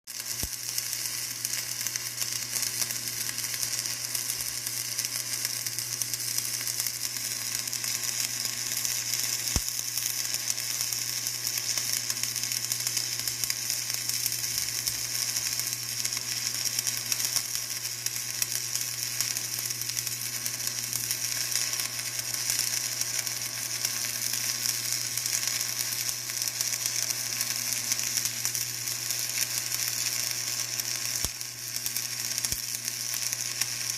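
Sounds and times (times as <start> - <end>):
welding arc crackling: 0.1 - 33.9.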